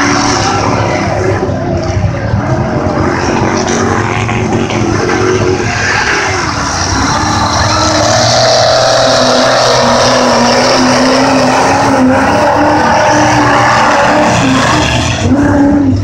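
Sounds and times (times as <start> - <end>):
truck engine running loud: 0.0 - 16.0.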